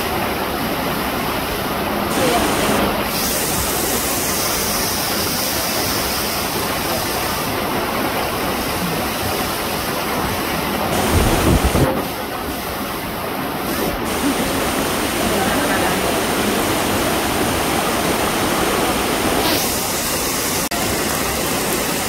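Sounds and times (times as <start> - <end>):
waterfall splashing: 0.0 - 22.0.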